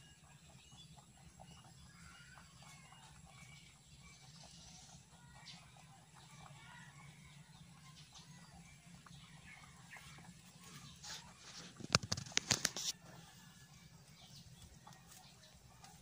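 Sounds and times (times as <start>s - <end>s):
rabbits rummaging in feed pellets: 0.0s - 16.0s.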